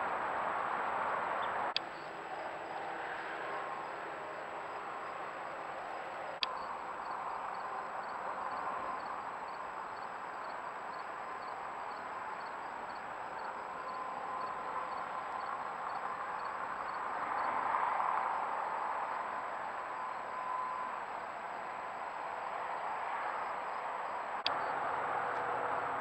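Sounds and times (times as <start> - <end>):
cricket chirping: 1.4 - 25.9.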